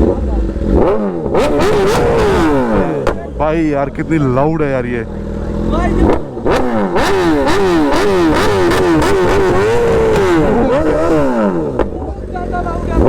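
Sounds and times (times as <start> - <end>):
exhaust cracks: 0.0 - 13.0
motorcycle engine revving: 0.0 - 13.0.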